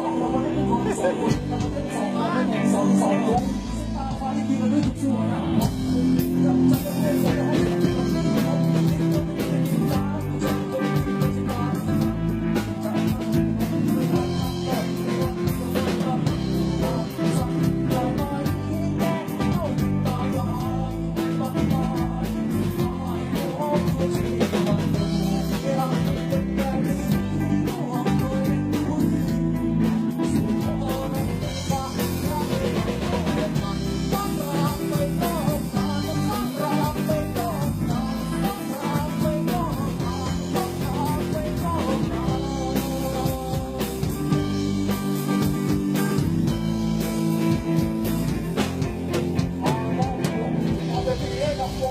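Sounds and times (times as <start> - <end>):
drum kit: 0.0 - 51.9
electric guitar: 0.0 - 51.9
person singing: 0.0 - 51.9.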